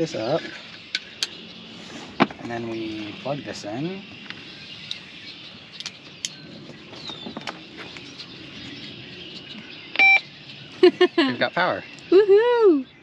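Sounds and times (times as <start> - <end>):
bird calling: 0.0 - 13.0
outdoor background hiss: 0.0 - 13.0.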